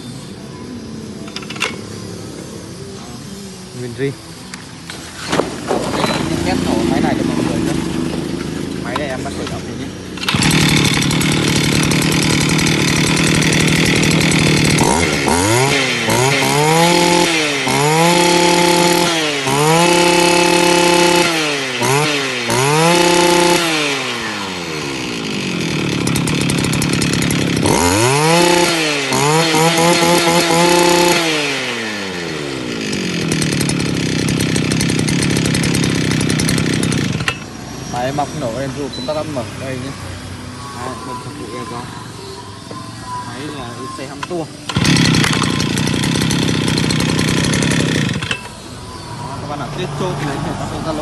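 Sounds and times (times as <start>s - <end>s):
brush cutter engine revving: 1.3s - 42.0s, 43.0s - 49.0s.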